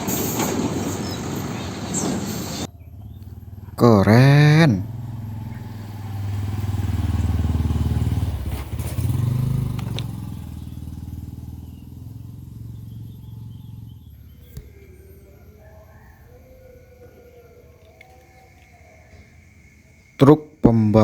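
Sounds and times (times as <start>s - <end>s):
motor engine rumble passing: 0.0s - 21.0s.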